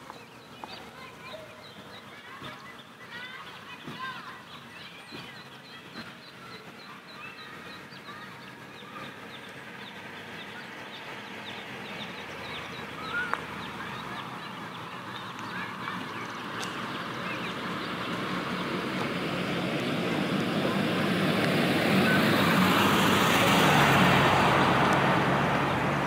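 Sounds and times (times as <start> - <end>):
birds chirping: 0.0 - 26.0
vehicle approaching: 0.0 - 26.0.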